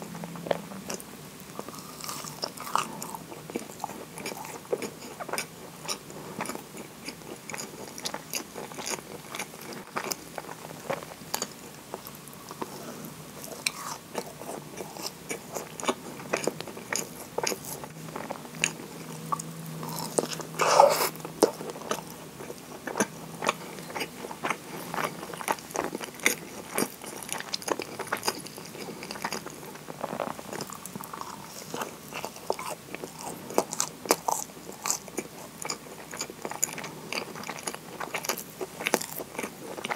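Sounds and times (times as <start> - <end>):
crackly biting and chewing: 0.5 - 39.9.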